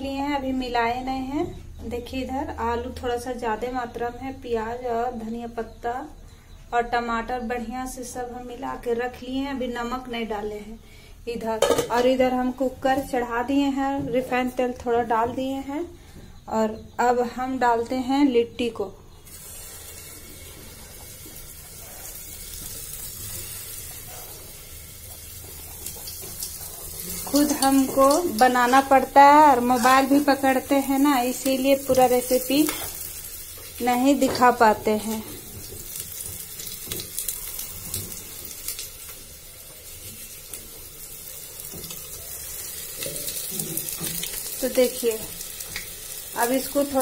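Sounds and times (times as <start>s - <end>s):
dough balls sizzling in oil: 0.0s - 47.0s.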